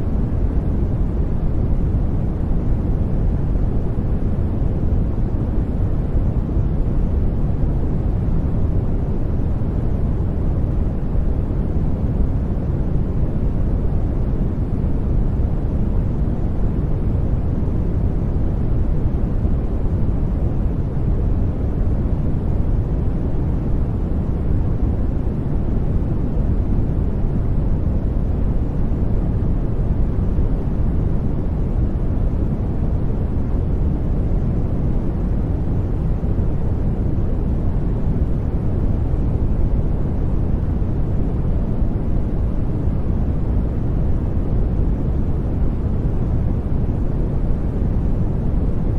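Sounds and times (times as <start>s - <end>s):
deep white noise rush: 0.0s - 48.9s.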